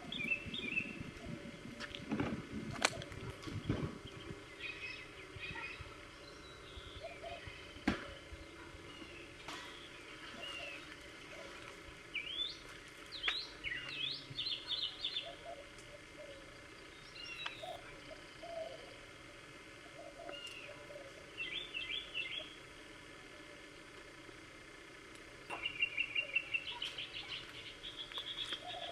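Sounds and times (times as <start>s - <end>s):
birds chirping and trilling: 0.0s - 24.7s, 25.3s - 28.9s.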